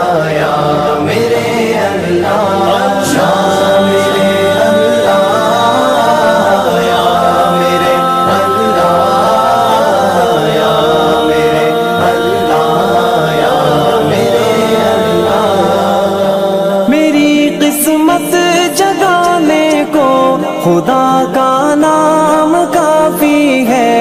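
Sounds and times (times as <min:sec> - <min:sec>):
voices singing unaccompanied: 0:00.0 - 0:24.0.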